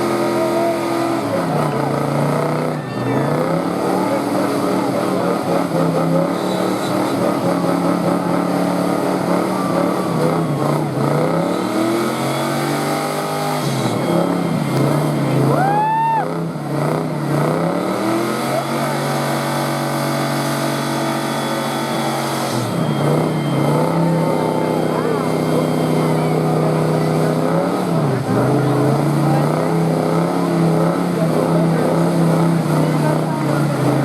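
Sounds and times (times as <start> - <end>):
car engine revving: 0.0 - 34.0
tire squeal: 0.0 - 34.0.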